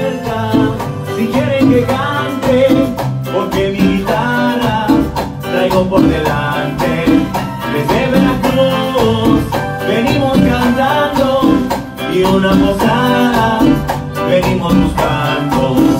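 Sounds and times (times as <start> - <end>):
drum kit: 0.0 - 15.9
electronic keyboard: 0.0 - 15.9
hand drums: 0.0 - 15.9
man singing into microphone: 0.0 - 15.9.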